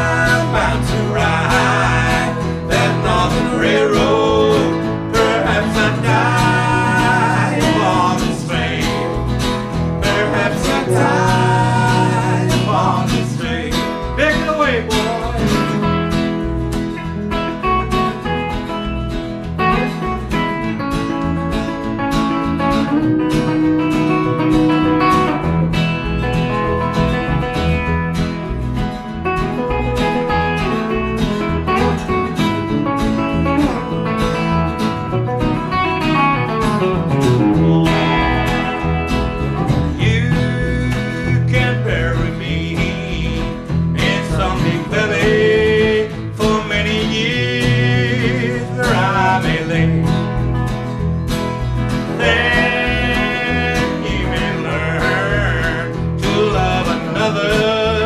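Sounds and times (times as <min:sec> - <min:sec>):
live blues band playing: 0:00.0 - 0:58.0.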